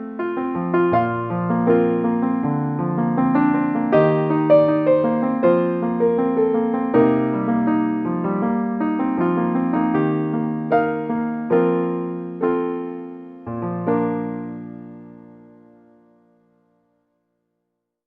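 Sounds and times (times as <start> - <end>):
slow gentle piano music: 0.0 - 17.1.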